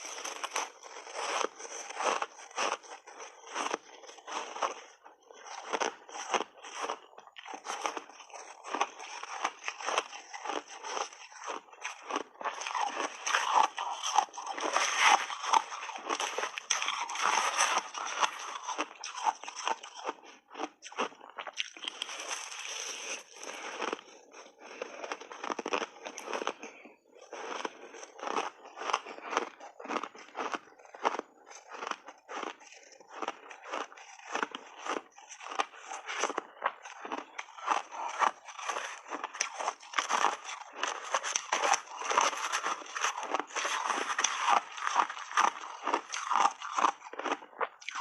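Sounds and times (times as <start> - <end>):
ice crunching being chewed: 0.0 - 48.0.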